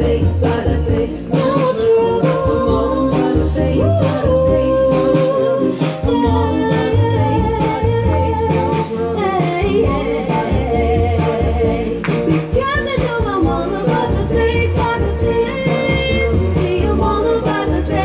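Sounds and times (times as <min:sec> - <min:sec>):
electronic keyboard with bass and beat: 0:00.0 - 0:18.0
woman singing pop song: 0:00.0 - 0:18.0.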